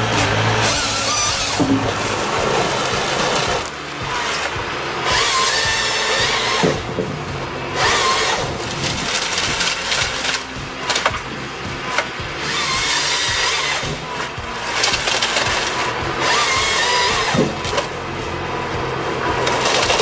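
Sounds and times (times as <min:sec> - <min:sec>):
background music: 0:00.0 - 0:20.0
power saw cutting wood: 0:00.0 - 0:20.0.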